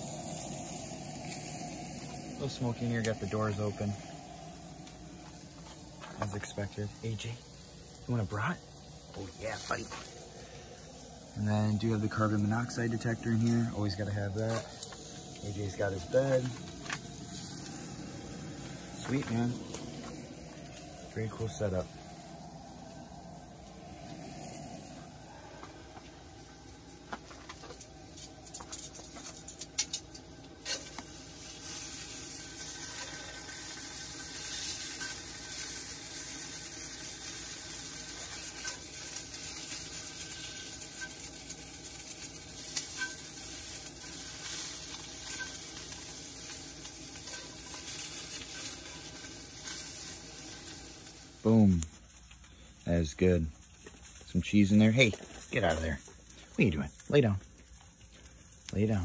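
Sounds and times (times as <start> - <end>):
sausages sizzling in a pan: 0.0 - 59.0.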